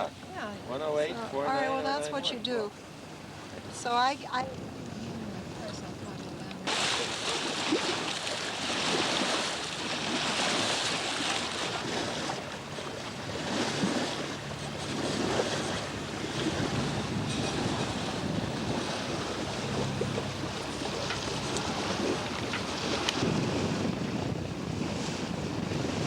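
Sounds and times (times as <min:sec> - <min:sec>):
water splashing along hull: 0:00.0 - 0:26.0
wind buffeting microphone: 0:02.2 - 0:26.0.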